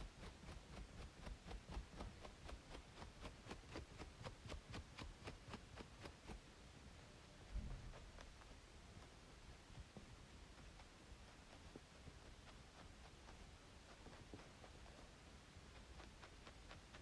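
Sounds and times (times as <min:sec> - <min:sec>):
scratching on braided scalp: 0:00.0 - 0:06.6, 0:07.4 - 0:17.0
faint white-noise hiss: 0:00.0 - 0:17.0.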